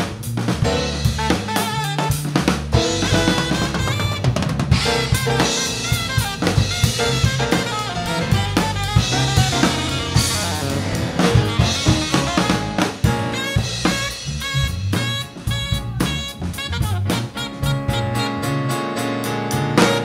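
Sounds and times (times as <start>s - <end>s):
drum kit groove: 0.0s - 20.0s
saxophone melody: 0.7s - 20.0s.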